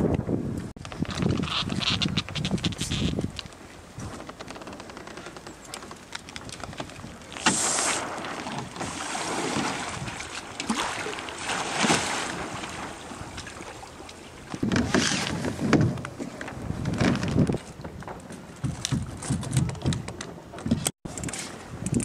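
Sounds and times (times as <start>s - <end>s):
wind on microphone: 0.0s - 4.4s, 6.4s - 22.0s
water splashing and sloshing: 0.8s - 22.0s.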